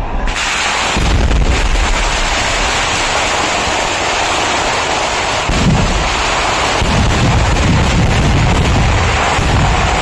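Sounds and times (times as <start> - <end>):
firecrackers roaring barrage: 0.0 - 10.0
heavy firework boom: 0.2 - 10.0.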